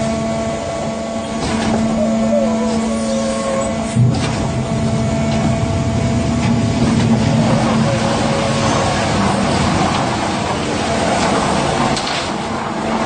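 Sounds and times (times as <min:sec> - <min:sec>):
concrete pump humming: 0:00.0 - 0:13.0.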